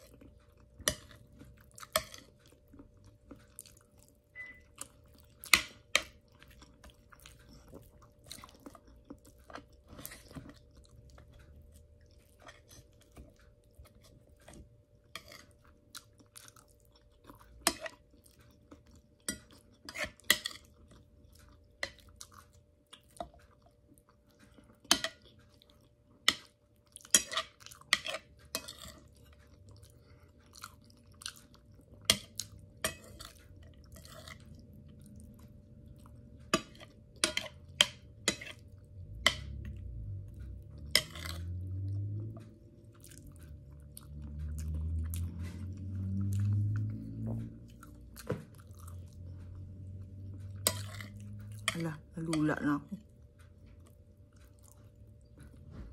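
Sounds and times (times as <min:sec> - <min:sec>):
chewing and crunching food: 0:00.0 - 0:55.9
faint steady hum: 0:00.0 - 0:55.9.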